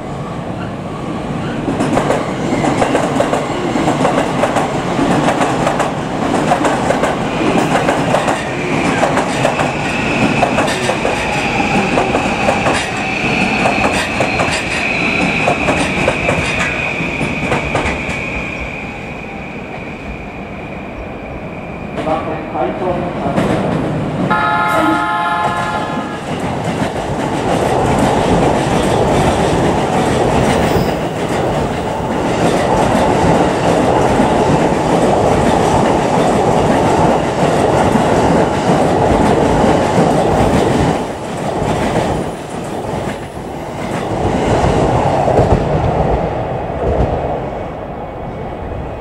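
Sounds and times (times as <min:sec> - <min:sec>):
train wheels rushing on rails: 0:00.0 - 0:49.0.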